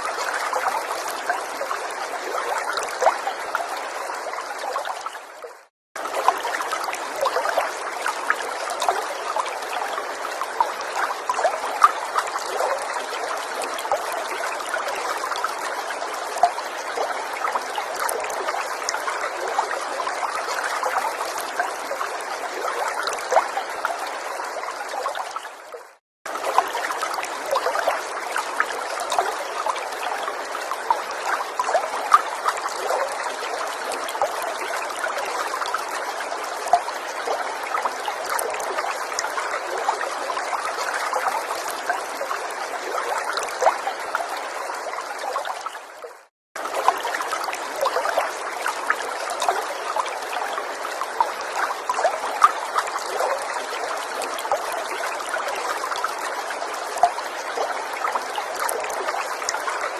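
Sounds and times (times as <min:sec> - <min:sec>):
stream trickling and babbling: 0:00.0 - 0:59.9.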